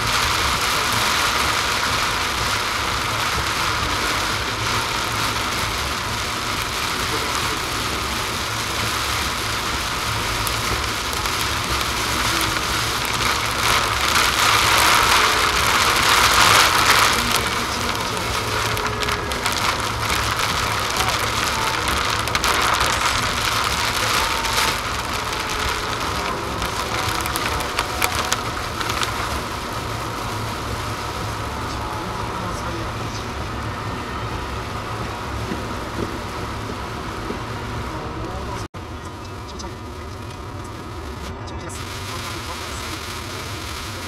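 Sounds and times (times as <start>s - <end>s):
heavy rain on car roof: 0.0s - 44.0s
tyres hissing on wet road: 0.0s - 44.0s.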